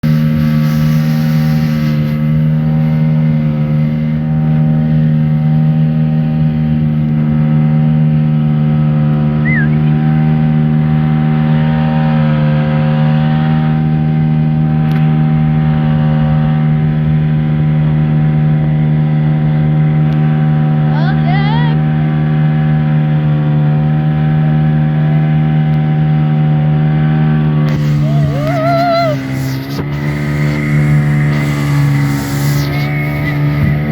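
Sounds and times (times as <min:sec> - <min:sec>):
engine droning: 0:00.0 - 0:33.9.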